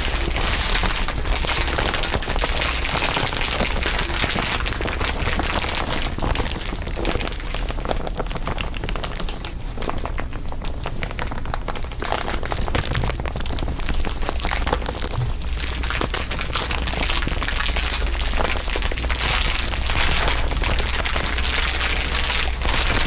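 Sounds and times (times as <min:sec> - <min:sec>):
crinkling crackles: 0:00.0 - 0:23.0
steady low hum: 0:00.0 - 0:23.0.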